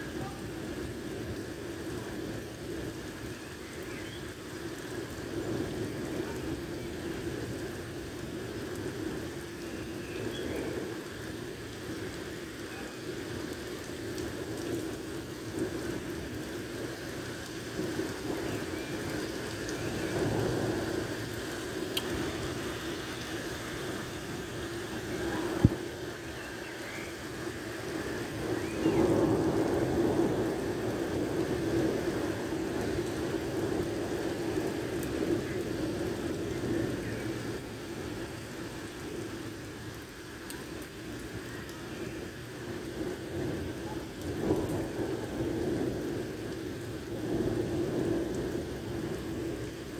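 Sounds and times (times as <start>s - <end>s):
heavy rain pouring on street: 0.0s - 49.9s.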